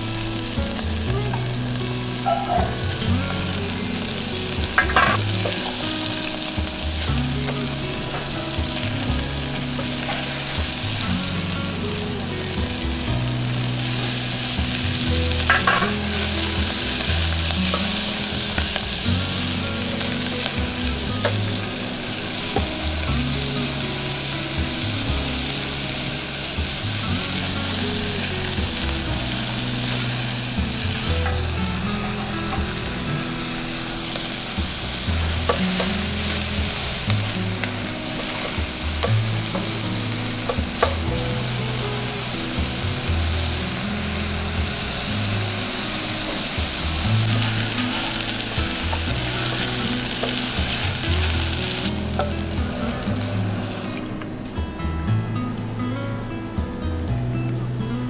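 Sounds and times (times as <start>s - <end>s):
vegetables sizzling: 0.0s - 58.0s.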